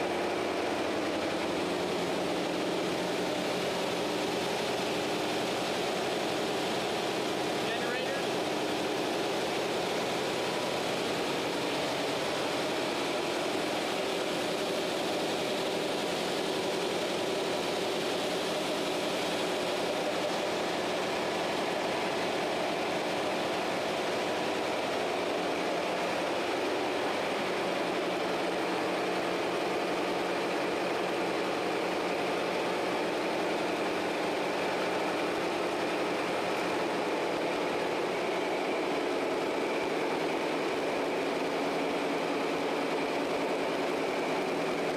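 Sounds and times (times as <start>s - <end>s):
marine diesel engine running: 0.0s - 44.9s.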